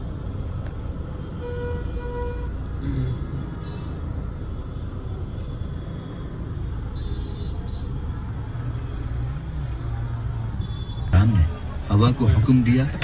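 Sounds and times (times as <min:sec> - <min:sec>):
vehicle rumbling in traffic: 0:00.0 - 0:13.0.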